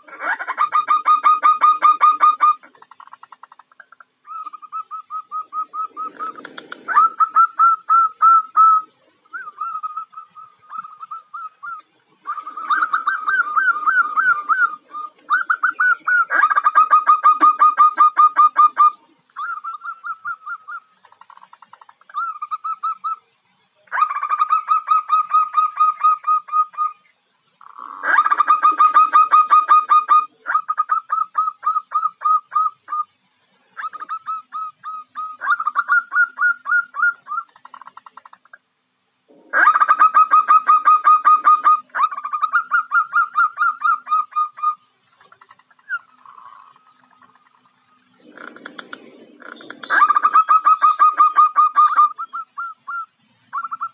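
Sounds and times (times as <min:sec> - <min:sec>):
dove cooing: 0:00.0 - 0:23.2, 0:23.9 - 0:27.0, 0:27.6 - 0:38.6, 0:39.3 - 0:53.9.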